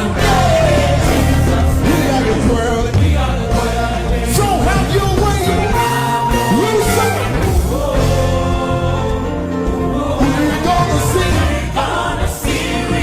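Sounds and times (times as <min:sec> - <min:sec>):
band with heavy bass: 0:00.0 - 0:13.0
gospel voices singing: 0:00.0 - 0:13.0.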